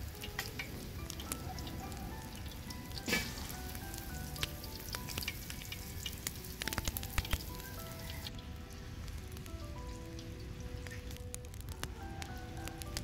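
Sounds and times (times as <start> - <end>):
meat sizzling in hot oil: 0.0 - 13.0
oil crackling: 0.0 - 13.0.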